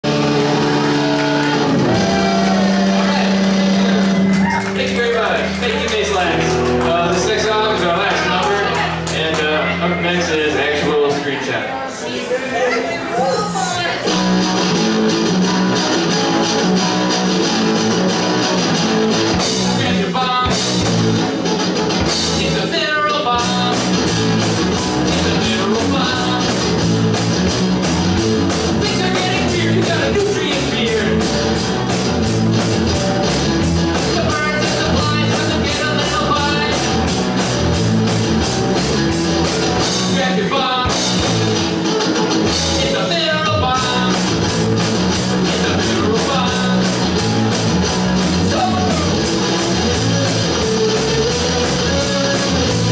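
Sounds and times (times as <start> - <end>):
drum kit: 0.0 - 10.0, 14.0 - 52.9
electric bass: 0.0 - 11.1, 14.0 - 52.9
electric guitar: 0.0 - 11.2, 13.2 - 52.9.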